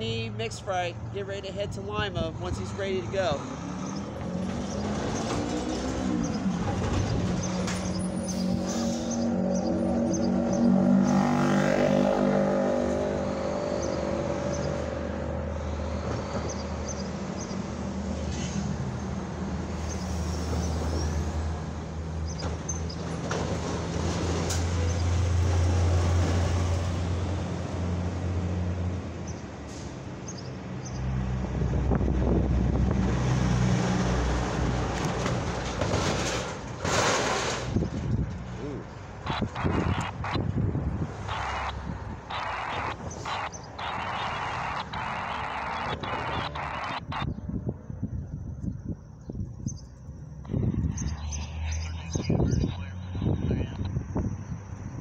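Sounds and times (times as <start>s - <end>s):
semi trucks driving past: 0.0s - 55.0s.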